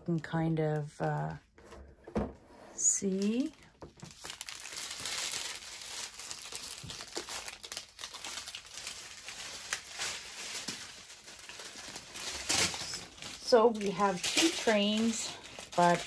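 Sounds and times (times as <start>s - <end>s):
plastic packaging crinkling: 3.0s - 16.0s.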